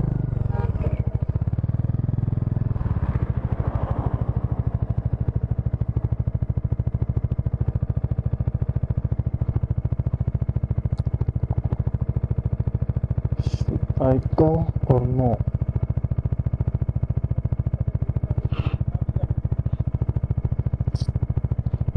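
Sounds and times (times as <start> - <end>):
motorcycle engine running at low revs: 0.0 - 21.9.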